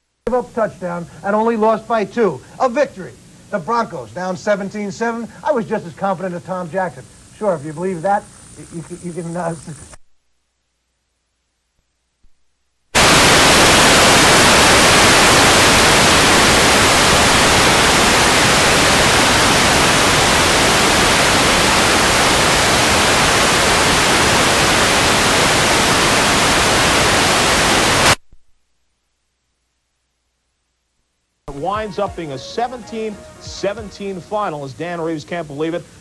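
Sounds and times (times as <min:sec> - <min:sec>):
loud static hiss: 0:00.0 - 0:36.0.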